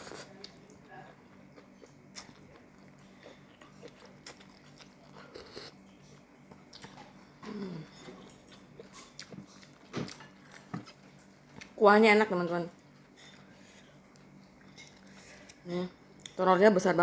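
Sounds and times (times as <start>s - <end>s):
food chewed: 0.0s - 11.8s, 12.8s - 16.4s.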